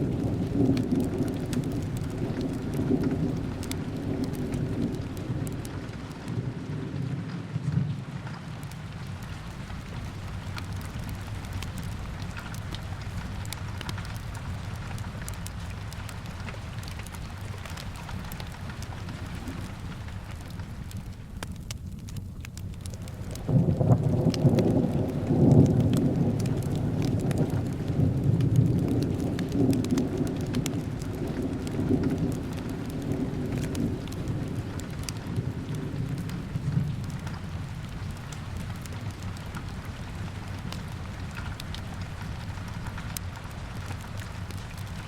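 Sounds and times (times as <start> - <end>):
fire crackling faintly: 0.0 - 45.0
steady rain: 0.0 - 45.0
thunder rumbling: 0.0 - 45.0.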